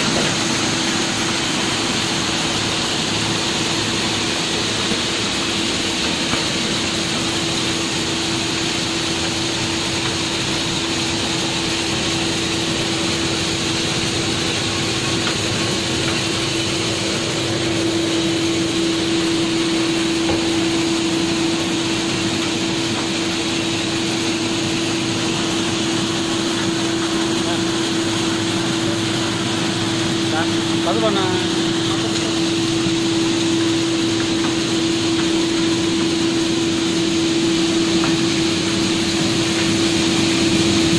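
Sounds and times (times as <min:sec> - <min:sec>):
mill machine droning: 0:00.0 - 0:40.9.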